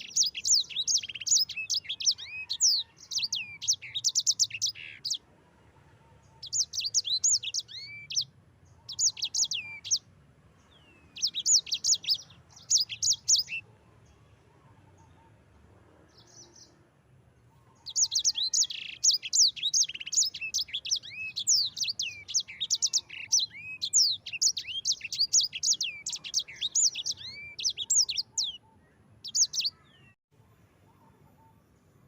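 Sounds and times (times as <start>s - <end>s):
songbird singing: 0.0s - 30.2s.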